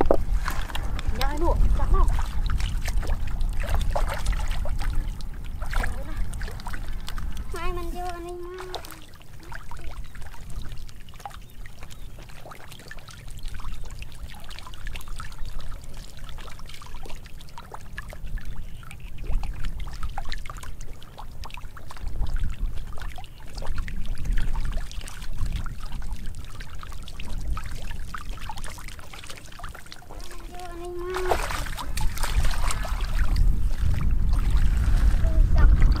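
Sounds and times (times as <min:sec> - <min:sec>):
fish splashing in water: 0:00.0 - 0:36.0
water running and trickling: 0:00.0 - 0:36.0.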